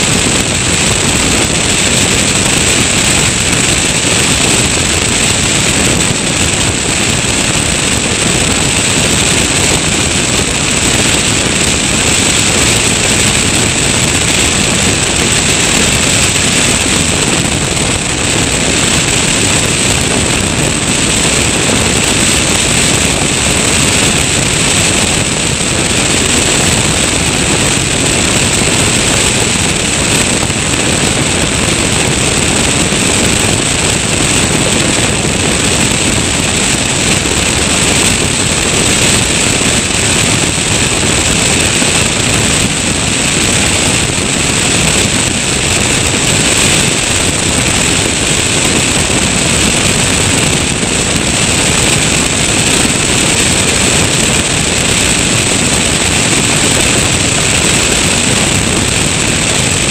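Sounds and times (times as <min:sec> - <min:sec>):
airflow rushing over microphone: 0:00.0 - 0:59.9
light aircraft engine and propeller: 0:00.0 - 0:59.9.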